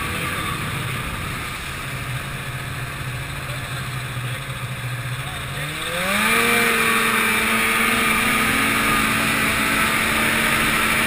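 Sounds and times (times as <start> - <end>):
snowmobile engine cruising: 0.0 - 11.0.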